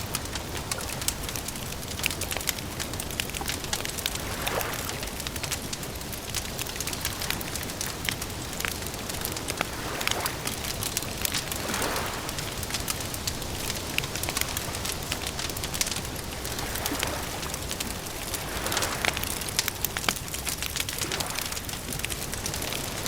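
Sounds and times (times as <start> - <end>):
campfire crackling and popping: 0.0 - 23.0
low fire hiss: 0.0 - 23.0.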